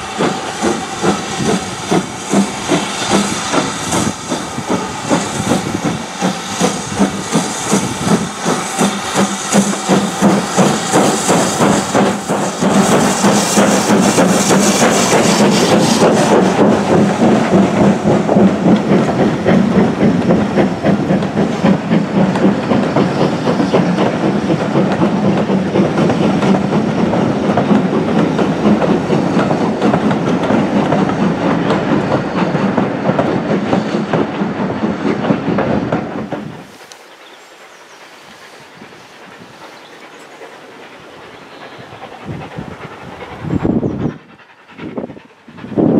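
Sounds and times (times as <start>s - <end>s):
loud steam hiss: 0.0s - 45.9s
steam locomotive exhaust beating: 0.0s - 45.9s.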